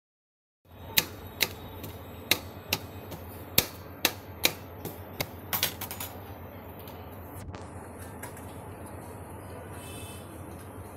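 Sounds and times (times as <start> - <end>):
steady low hum: 0.7 - 10.9.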